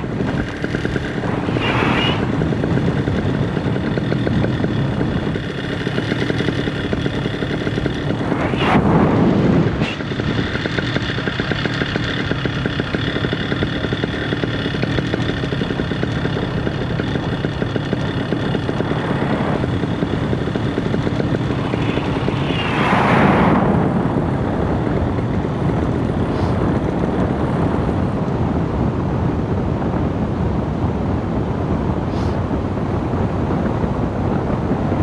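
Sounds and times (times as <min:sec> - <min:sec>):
paramotor engine and propeller: 0:00.0 - 0:35.0
wind noise on microphone: 0:00.0 - 0:35.0.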